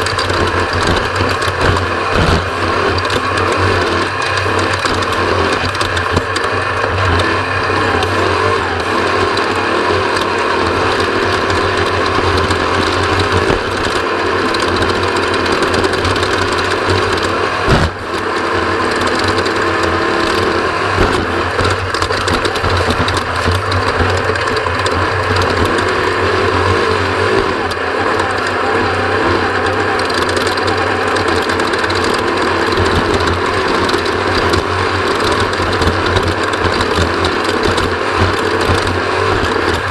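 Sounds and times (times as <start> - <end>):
chassis rattle: 0.0 - 39.9
race vehicle engine drone: 0.0 - 39.9.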